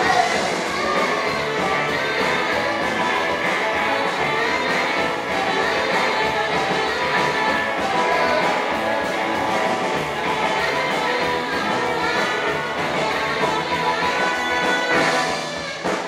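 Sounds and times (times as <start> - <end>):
rockabilly band playing live: 0.0 - 16.0.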